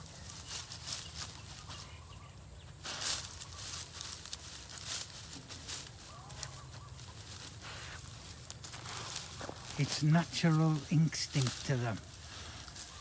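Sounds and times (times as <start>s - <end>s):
twigs and leaves rustling: 0.0s - 13.0s.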